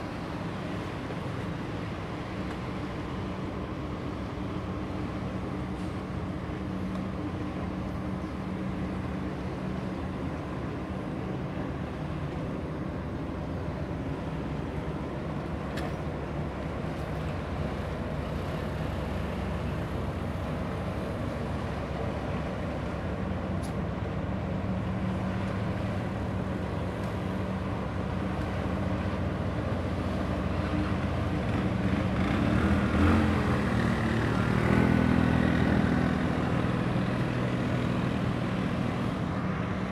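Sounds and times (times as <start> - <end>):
ship engine drone: 0.0 - 39.9.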